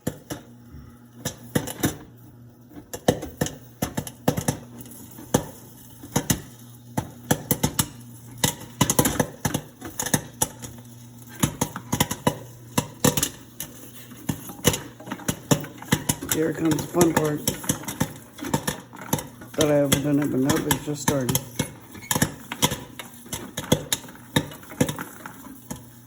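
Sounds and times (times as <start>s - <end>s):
machine motor hum: 0.0s - 26.0s
popcorn popping: 0.0s - 26.0s.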